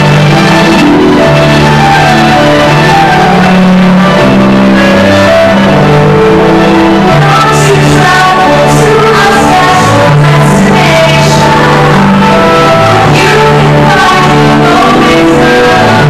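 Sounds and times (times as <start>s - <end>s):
live song with singer and band: 0.0s - 16.0s.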